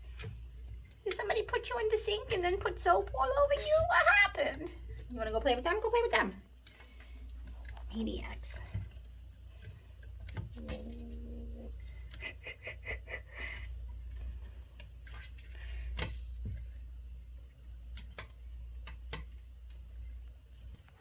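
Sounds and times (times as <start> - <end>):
boiler room hum: 0.0 - 21.0
kittens playing: 0.0 - 21.0.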